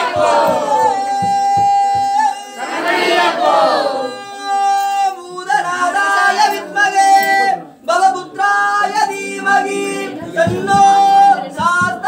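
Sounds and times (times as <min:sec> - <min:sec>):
voices singing devotional song: 0:00.0 - 0:12.0.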